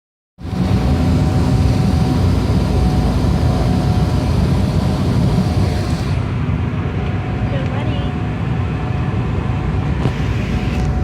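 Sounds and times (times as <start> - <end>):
airliner cabin engine rumble: 0.4 - 11.0.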